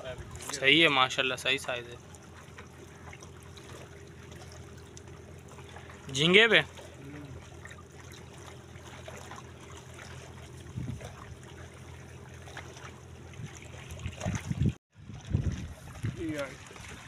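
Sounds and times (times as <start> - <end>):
water lapping against rocks: 0.0 - 17.0.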